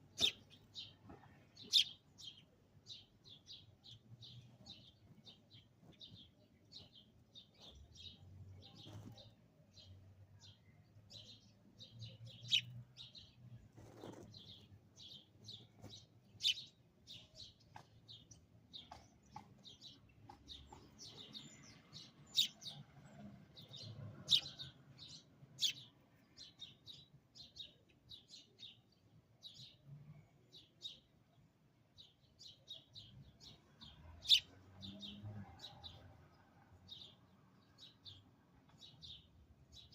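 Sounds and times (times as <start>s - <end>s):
sparrow chirping: 0.0s - 39.9s.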